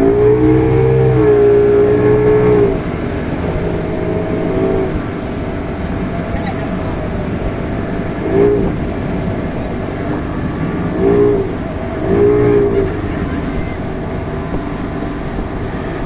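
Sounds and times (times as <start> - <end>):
motorboat engine running: 0.0 - 16.0.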